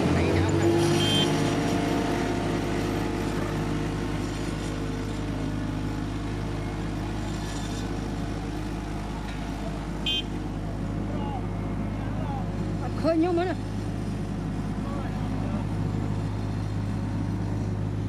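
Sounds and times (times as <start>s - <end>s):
heavy machinery engine drone: 0.0s - 18.0s.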